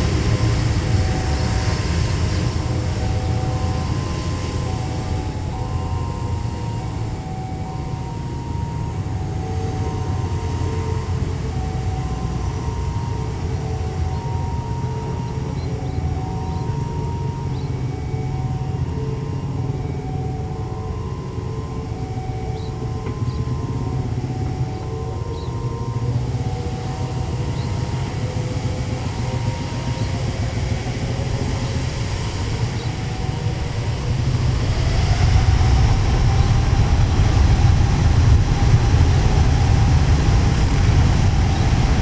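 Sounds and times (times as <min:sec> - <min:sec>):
faint two-note alternating tone: 0:00.0 - 0:42.0
jet engines rumbling: 0:00.0 - 0:42.0.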